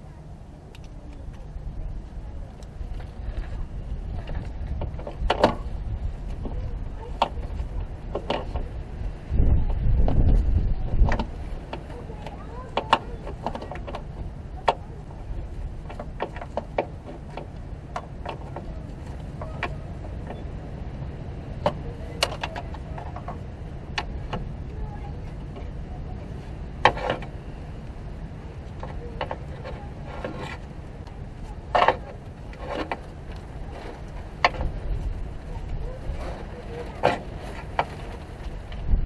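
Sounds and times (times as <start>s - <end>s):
low rumble: 0.0s - 39.0s.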